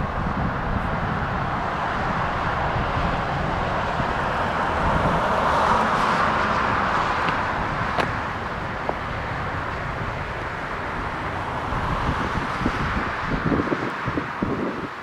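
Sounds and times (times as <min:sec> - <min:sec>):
jet engines roaring: 0:00.0 - 0:15.0
wind on microphone: 0:00.0 - 0:15.0.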